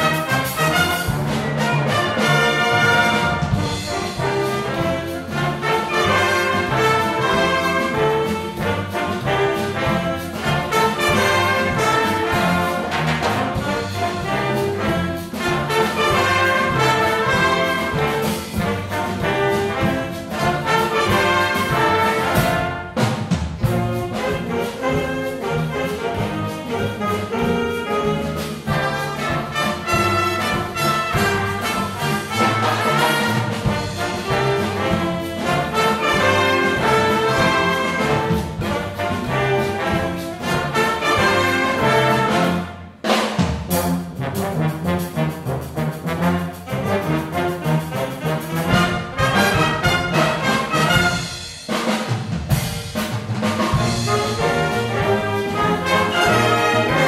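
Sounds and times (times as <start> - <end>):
steady percussion beat: 0.0 - 57.0
wind band playing: 0.0 - 57.0.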